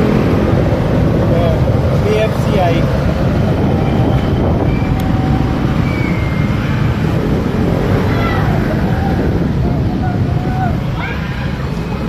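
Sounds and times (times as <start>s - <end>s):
motorcycle engine rumble: 0.0s - 12.0s
road noise: 0.0s - 12.0s.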